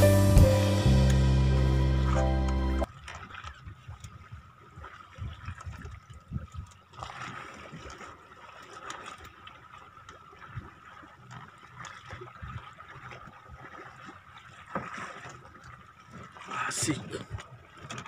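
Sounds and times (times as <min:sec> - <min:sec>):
water lapping against boat: 0:02.0 - 0:18.0.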